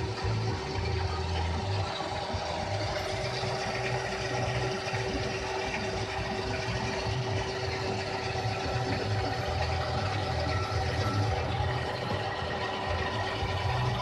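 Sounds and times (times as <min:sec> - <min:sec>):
lathe machine hum: 0:00.0 - 0:14.0.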